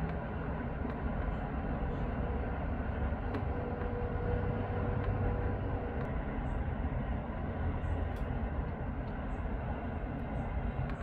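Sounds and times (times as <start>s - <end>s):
road traffic rumble: 0.0s - 11.0s
steady hum: 0.0s - 11.0s.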